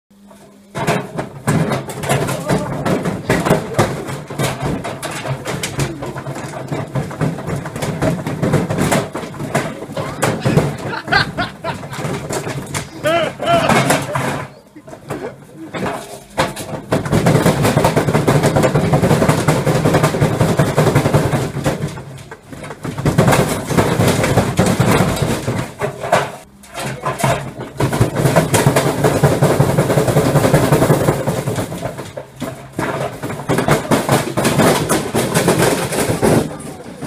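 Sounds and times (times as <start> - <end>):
washing machine clattering and banging: 0.2 - 37.0.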